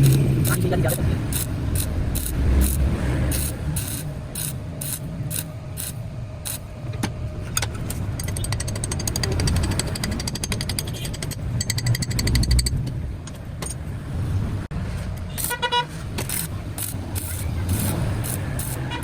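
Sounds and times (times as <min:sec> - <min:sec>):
rapid engine clatter: 0:00.0 - 0:13.0, 0:15.4 - 0:19.0
road traffic rumbling: 0:00.0 - 0:19.0.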